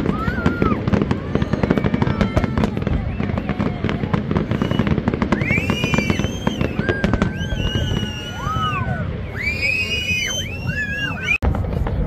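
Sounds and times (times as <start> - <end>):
fireworks bursting and crackling: 0.0 - 12.0
fireworks whistling: 0.0 - 12.0.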